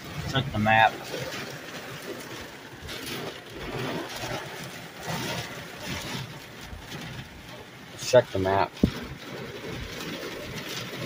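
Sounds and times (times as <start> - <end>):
heavy rain on a car roof: 0.0 - 11.0.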